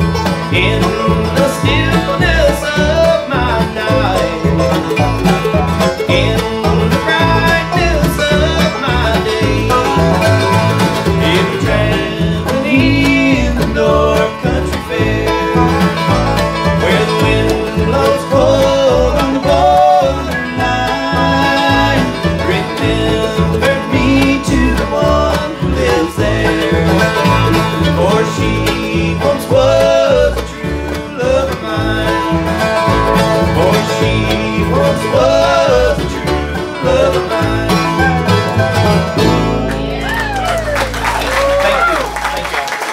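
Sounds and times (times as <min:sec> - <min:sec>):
men singing: 0:00.0 - 0:39.0
resonator guitar: 0:00.0 - 0:42.6
acoustic guitar: 0:00.0 - 0:42.9
banjo: 0:00.0 - 0:42.9
mandolin: 0:00.0 - 0:42.9
upright bass: 0:00.0 - 0:42.9.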